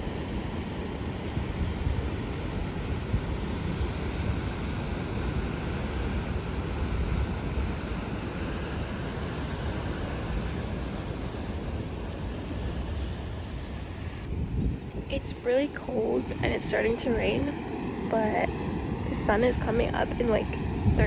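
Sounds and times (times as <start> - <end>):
ocean surf rushing: 0.0 - 21.0
wind rumbling on microphone: 0.0 - 21.0.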